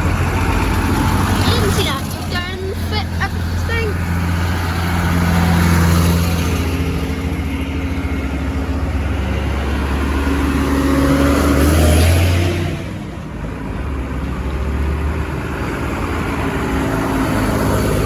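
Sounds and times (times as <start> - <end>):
tractors driving past: 0.0 - 18.0.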